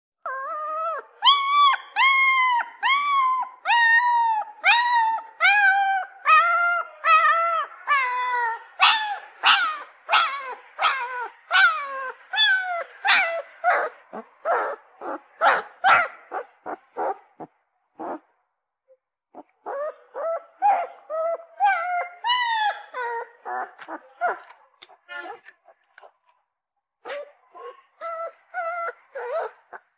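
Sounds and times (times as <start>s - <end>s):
puppy whimpering cries: 0.2s - 18.3s, 19.3s - 25.5s, 27.1s - 29.9s.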